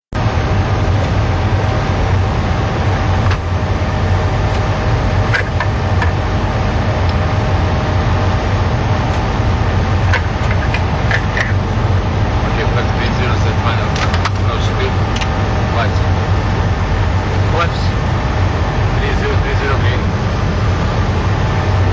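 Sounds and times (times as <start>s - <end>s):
jet engine and airflow noise: 0.1s - 21.9s.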